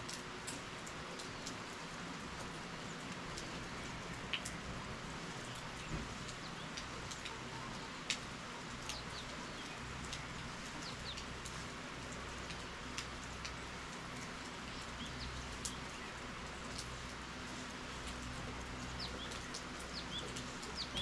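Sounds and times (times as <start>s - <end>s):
rainfall hiss: 0.0s - 21.0s.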